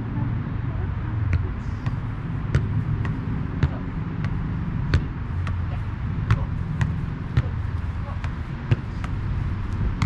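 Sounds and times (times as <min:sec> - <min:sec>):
steady low rumble: 0:00.0 - 0:10.0
football kick thuds: 0:01.3 - 0:10.0.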